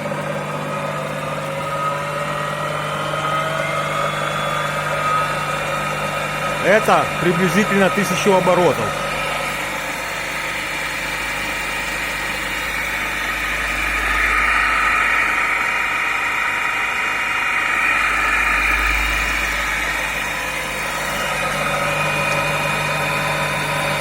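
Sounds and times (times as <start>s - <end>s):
wood lathe motor hum and whine: 0.0s - 24.0s.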